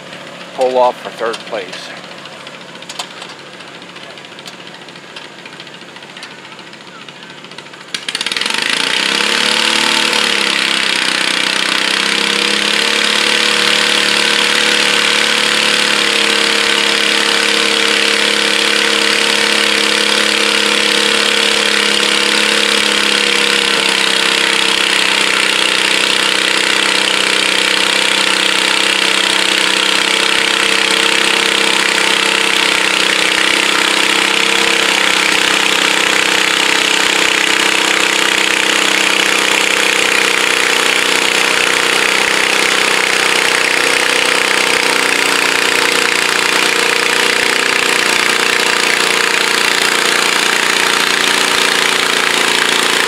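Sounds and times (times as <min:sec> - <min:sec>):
garden tractor engine running hard: 0:00.0 - 0:53.0.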